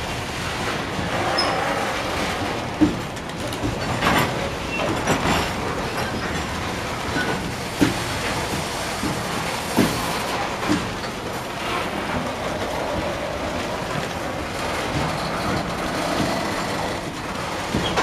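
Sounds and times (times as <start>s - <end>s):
sharp clanks of rail cars: 0.0s - 18.0s
train wheels rumbling on track: 0.0s - 18.0s.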